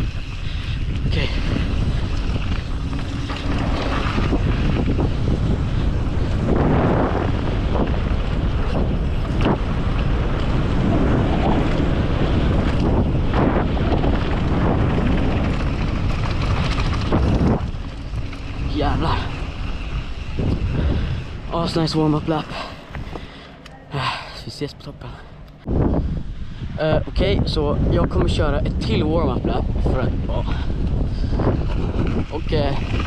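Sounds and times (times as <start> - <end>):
tyres rumbling on dirt trail: 0.0 - 33.0
wind buffeting microphone: 0.0 - 33.0.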